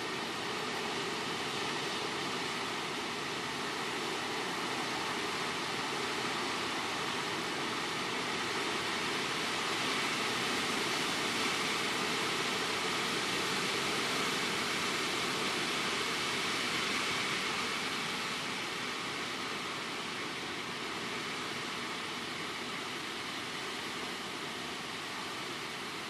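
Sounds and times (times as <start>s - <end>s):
strong wind through tree leaves: 0.0s - 26.0s.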